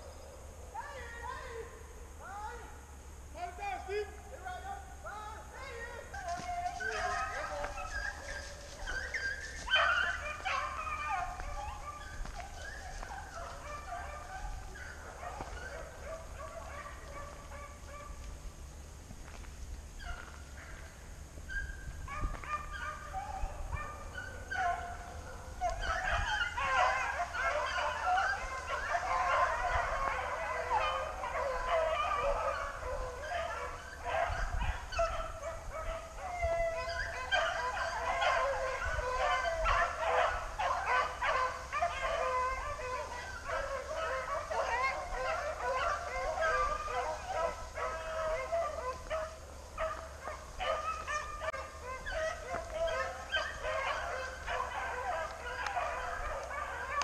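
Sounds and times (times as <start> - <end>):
hounds baying and yelping: 0.0 - 1.9, 5.6 - 57.0.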